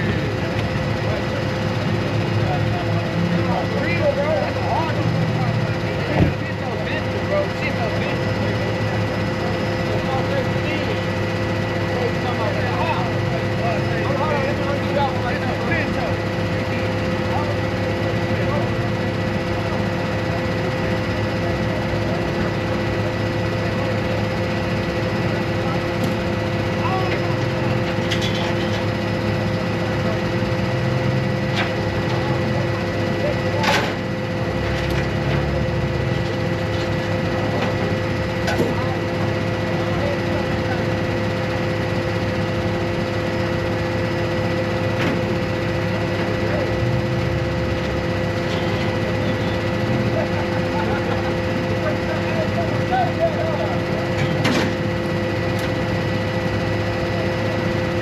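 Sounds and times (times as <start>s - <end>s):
constant steady tones: 0.0s - 58.0s
road noise: 0.0s - 58.0s
vehicle engine running: 0.0s - 58.0s.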